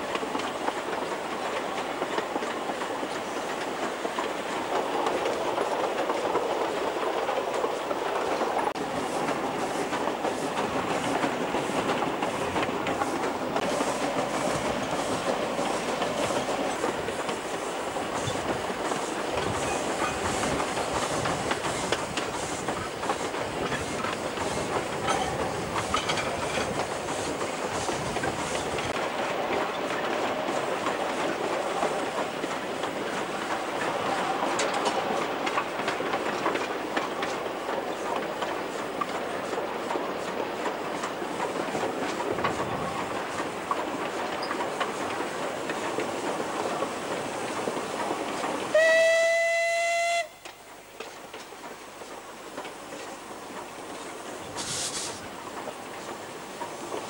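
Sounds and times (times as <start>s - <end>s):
steam locomotive wheels rumbling: 0.0s - 57.0s.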